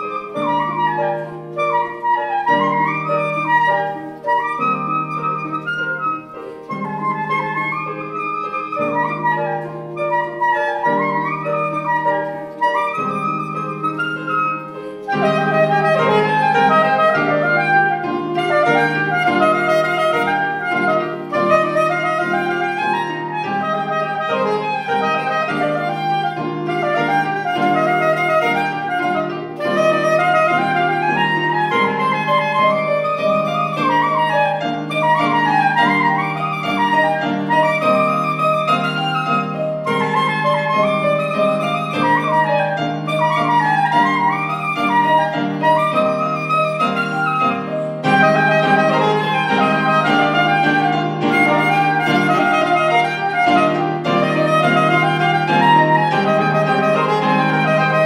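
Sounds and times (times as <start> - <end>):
grand piano accompaniment: 0.0 - 58.0
soprano saxophone melody: 0.0 - 58.0.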